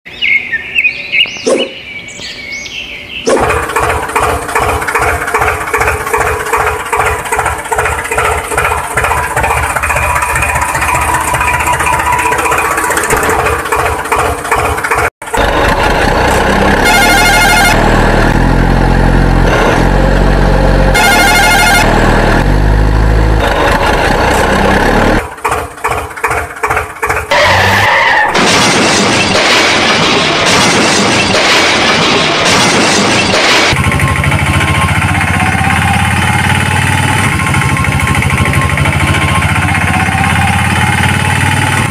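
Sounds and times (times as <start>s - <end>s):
rhythmic running engine: 3.2s - 27.7s, 28.4s - 41.9s
heavy deep engine: 3.3s - 41.9s.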